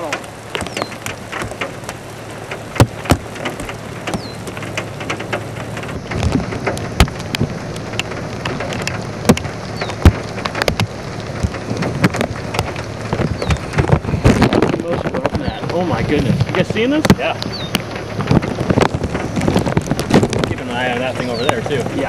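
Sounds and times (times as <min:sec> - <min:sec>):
raindrops tapping on hard surface: 0:00.0 - 0:22.0.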